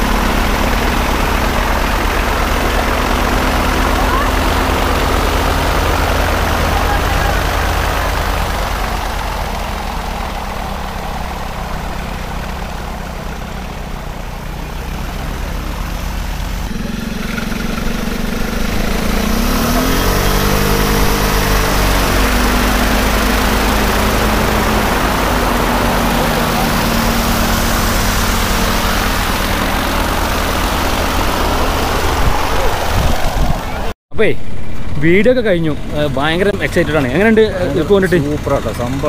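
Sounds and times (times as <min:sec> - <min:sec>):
propeller engine running and revving: 0:00.0 - 0:39.0.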